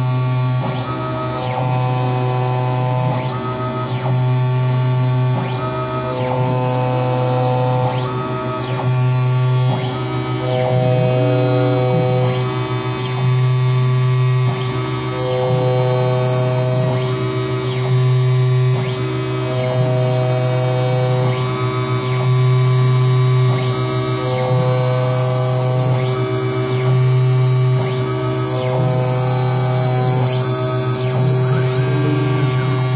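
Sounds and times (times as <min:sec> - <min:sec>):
machine low hum: 0:00.0 - 0:32.9
motor whines rising and falling: 0:00.0 - 0:32.9.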